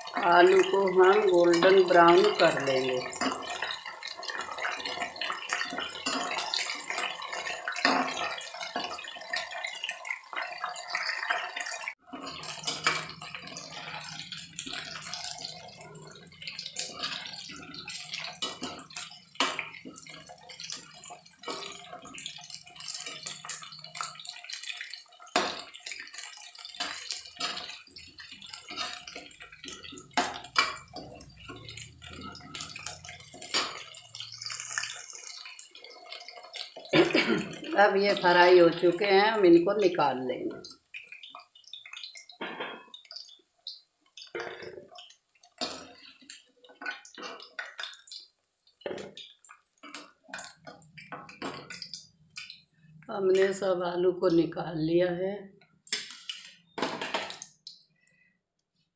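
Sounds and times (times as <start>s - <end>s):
metal spoon clacking against pan: 0.0s - 36.9s, 40.6s - 52.6s, 55.9s - 57.8s
potatoes sizzling in hot oil: 0.0s - 58.3s.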